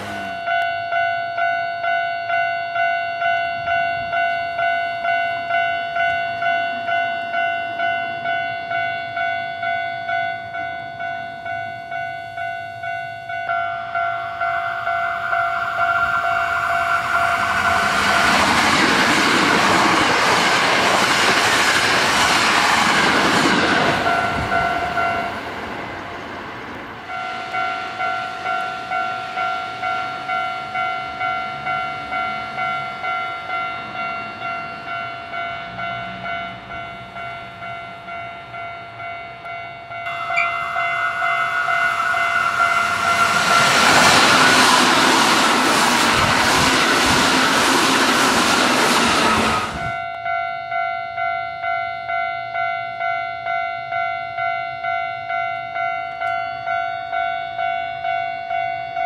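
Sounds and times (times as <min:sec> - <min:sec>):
crossing bell ringing: 0:00.0 - 0:21.8, 0:22.6 - 0:26.3, 0:26.9 - 0:59.0
electric train running past: 0:00.0 - 0:59.0.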